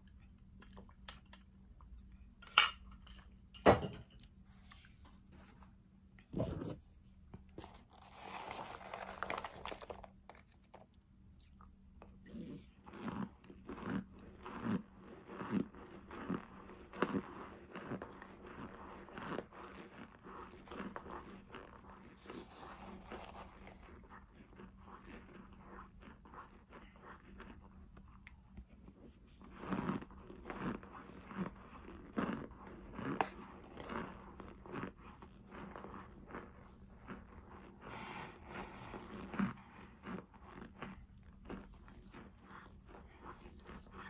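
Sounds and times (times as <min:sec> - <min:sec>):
crisp chewing crunches: 0:07.7 - 0:37.8, 0:38.7 - 0:44.0.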